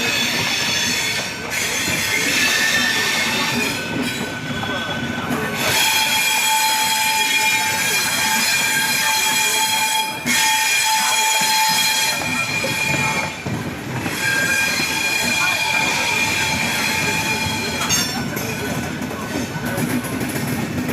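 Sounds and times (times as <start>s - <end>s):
train wheels screeching on rails: 0.0s - 20.9s.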